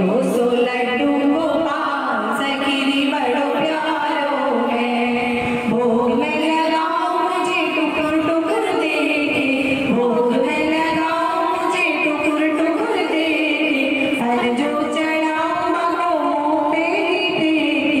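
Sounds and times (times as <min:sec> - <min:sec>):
women singing devotional song: 0:00.0 - 0:18.0.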